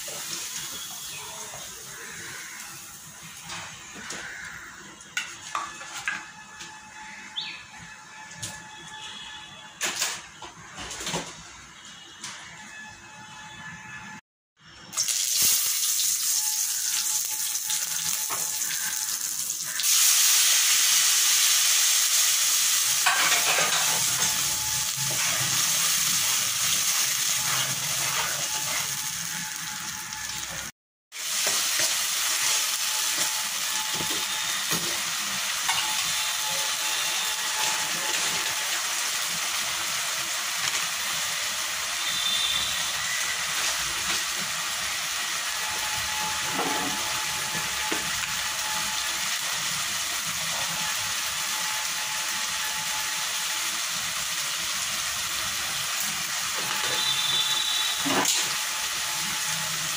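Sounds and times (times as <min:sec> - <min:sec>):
food sizzling in hot oil: 0:00.0 - 0:05.6, 0:14.9 - 0:59.9.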